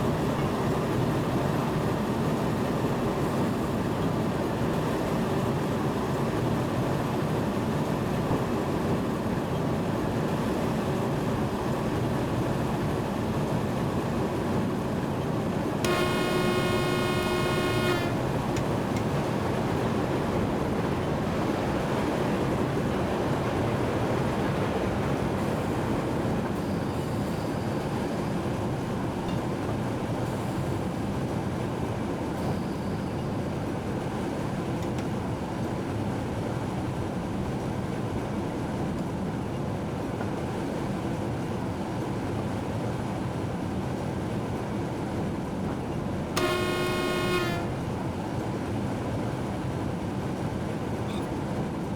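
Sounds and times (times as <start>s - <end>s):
train running on rails: 0.0s - 51.9s.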